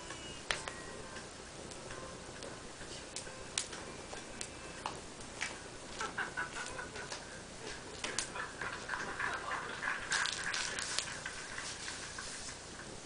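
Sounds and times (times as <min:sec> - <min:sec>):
fire crackling and popping: 0:00.4 - 0:13.0.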